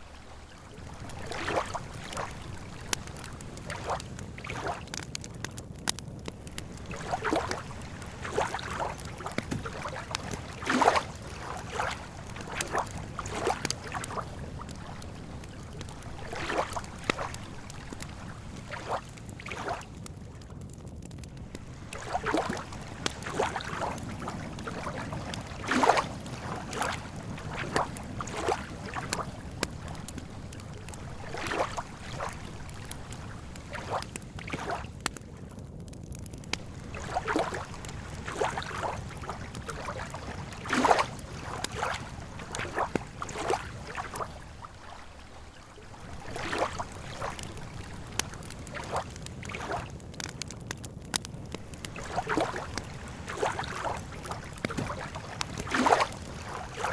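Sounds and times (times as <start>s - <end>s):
water lapping at shore: 0.0s - 35.6s, 36.2s - 56.9s.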